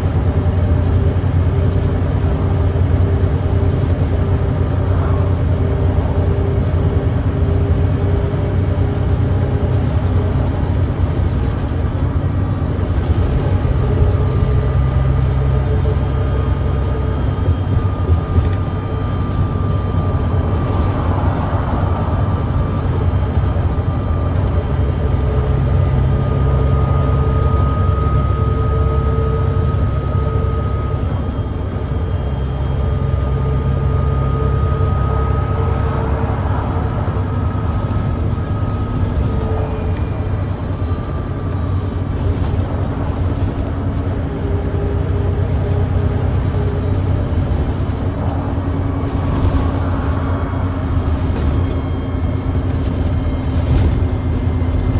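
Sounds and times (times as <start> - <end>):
bus diesel engine rumbling: 0.0 - 54.9.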